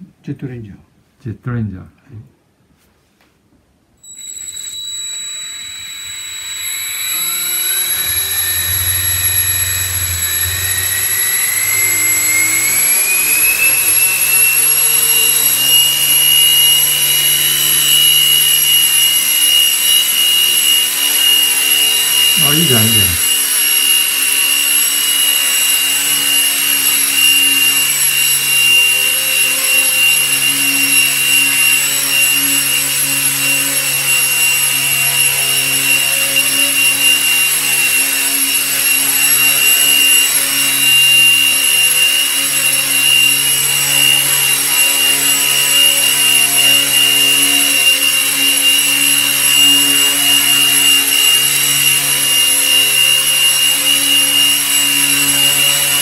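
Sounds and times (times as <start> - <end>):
high-pitched motor whine: 4.0 - 56.0
helicopter rotor hum: 4.2 - 56.0.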